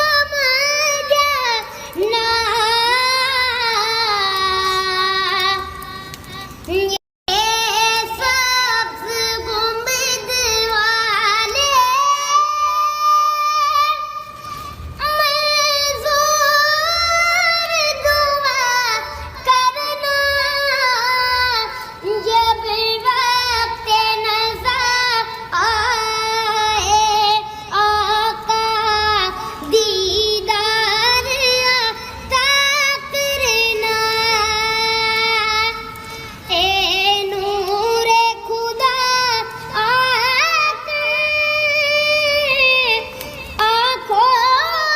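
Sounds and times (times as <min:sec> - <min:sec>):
high young voice singing: 0:00.0 - 0:44.9.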